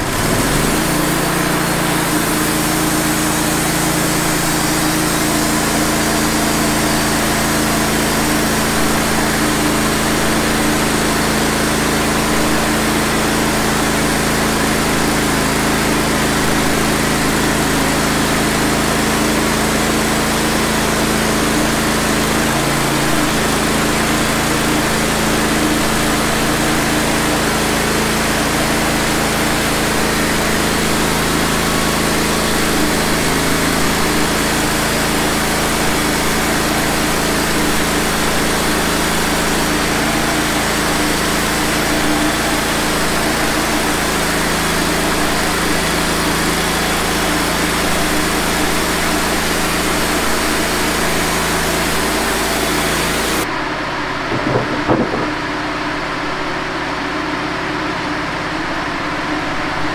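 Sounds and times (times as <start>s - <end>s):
band sawmill cutting log: 0.0s - 53.6s, 54.2s - 56.6s.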